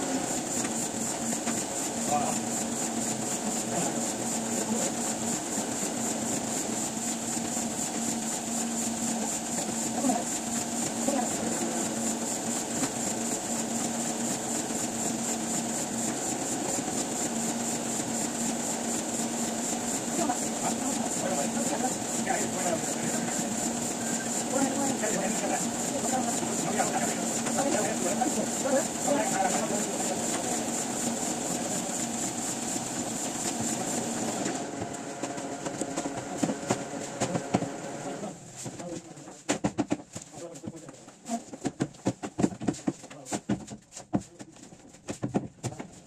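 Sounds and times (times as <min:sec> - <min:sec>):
high machine whine: 0:00.0 - 0:39.3
printing press machinery humming: 0:00.0 - 0:46.0.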